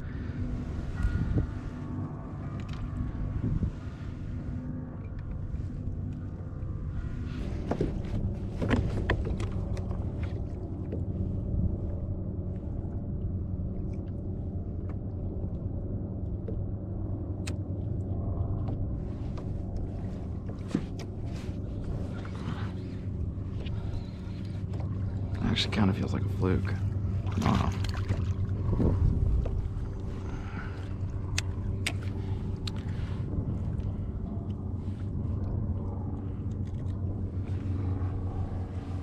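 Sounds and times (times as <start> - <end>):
boat engine humming: 0.0 - 39.0.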